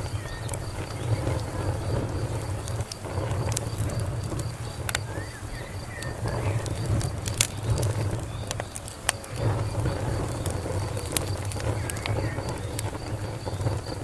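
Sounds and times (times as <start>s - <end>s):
faint bird chirps: 0.0s - 2.1s, 4.6s - 14.0s
wood fire crackling: 0.0s - 14.0s.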